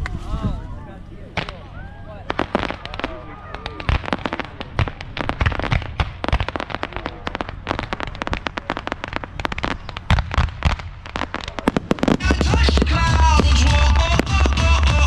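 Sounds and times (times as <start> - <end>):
fireworks popping and crackling: 1.3 - 15.0
deep fireworks booms: 2.2 - 15.0.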